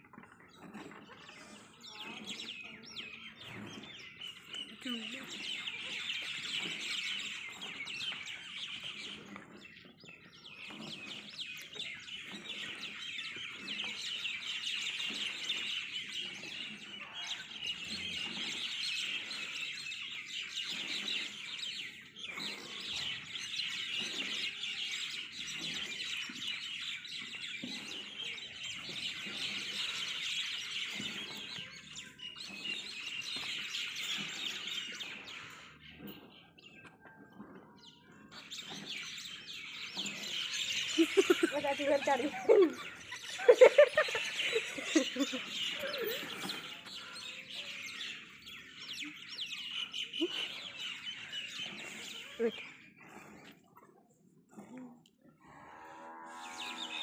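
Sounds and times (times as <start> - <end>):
chorus of small birds chirping: 0.0 - 57.0.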